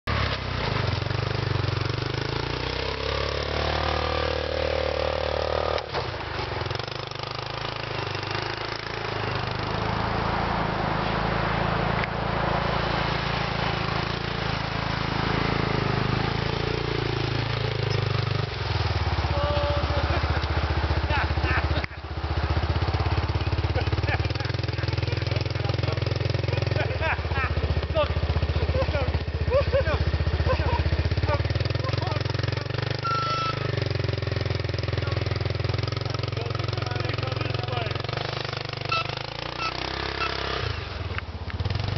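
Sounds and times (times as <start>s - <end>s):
four-wheeler engine running: 0.0s - 41.9s.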